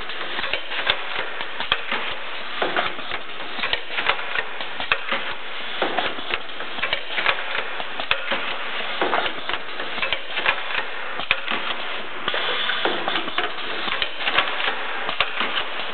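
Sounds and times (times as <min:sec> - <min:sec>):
pneumatic machine clattering: 0:00.0 - 0:15.9.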